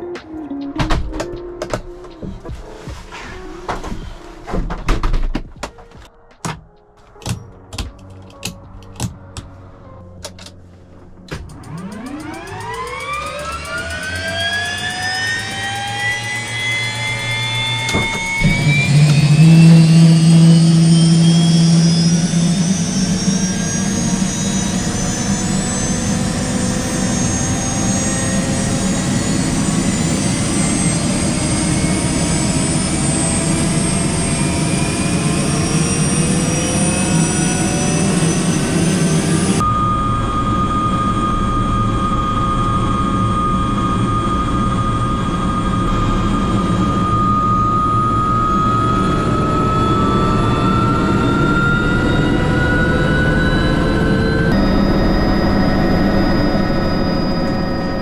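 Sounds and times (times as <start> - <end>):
helicopter turbine whine: 11.2 - 58.0.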